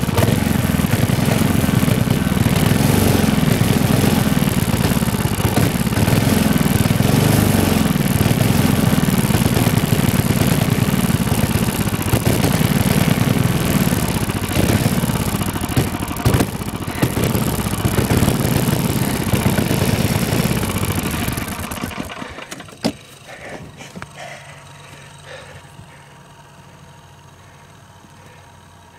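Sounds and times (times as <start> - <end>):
go-kart engine revving: 0.0 - 28.9.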